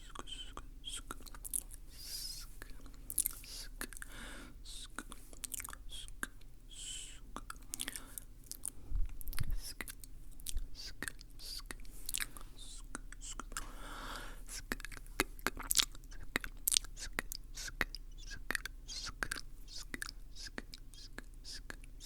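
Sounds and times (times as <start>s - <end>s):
soft breathy hiss: 0.0s - 15.5s, 16.1s - 22.0s
lip and tongue clicks: 0.1s - 4.1s, 4.7s - 13.7s, 14.5s - 22.0s.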